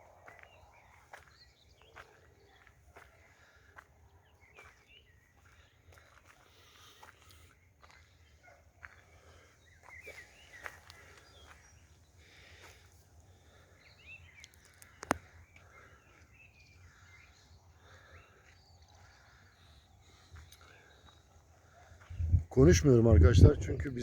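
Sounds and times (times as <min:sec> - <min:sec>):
birds singing faintly: 0:00.0 - 0:24.0.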